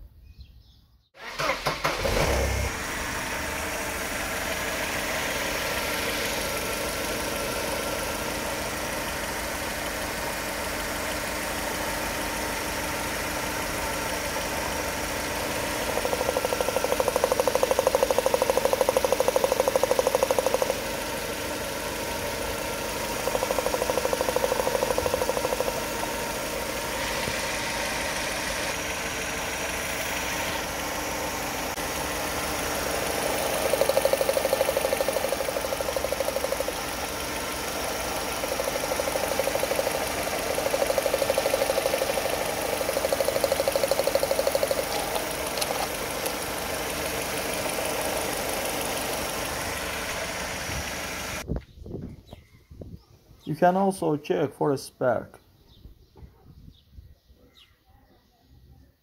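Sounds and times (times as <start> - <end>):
car engine cranking and idling: 1.2 - 51.5
engine rattling buzz: 1.2 - 51.5.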